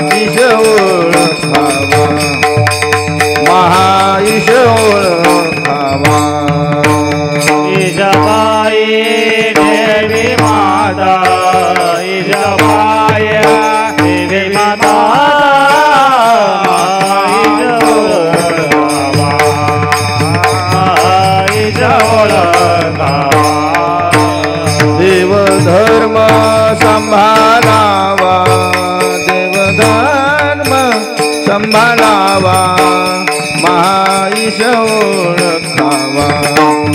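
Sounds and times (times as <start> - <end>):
hand cymbals clashing: 0.0 - 36.9.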